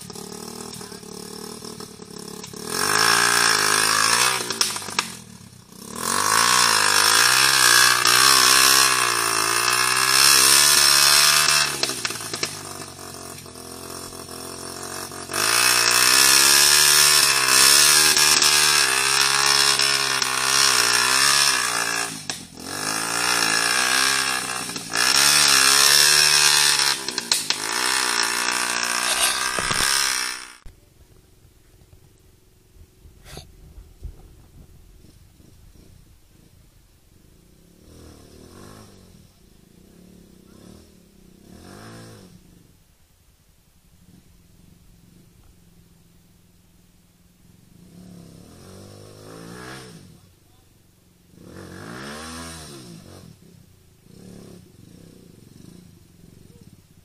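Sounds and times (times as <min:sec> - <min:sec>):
motorcycle engine revving: 0:00.0 - 0:43.2, 0:43.8 - 0:57.0.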